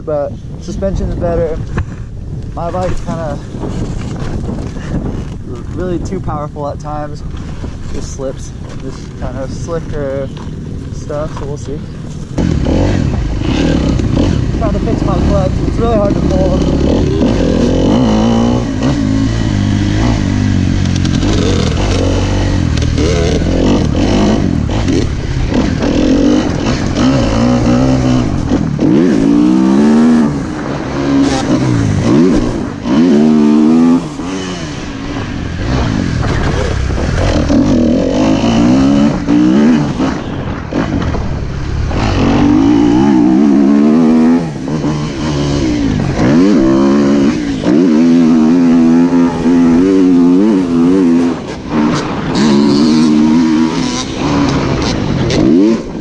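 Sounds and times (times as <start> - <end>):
wind buffeting microphone: 0.0 - 56.0
dirt bike engine revving: 7.6 - 56.0.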